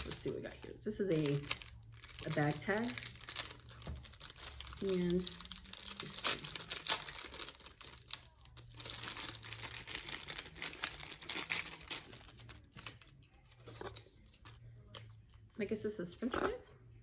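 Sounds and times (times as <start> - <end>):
packaging crinkling: 0.0 - 14.1.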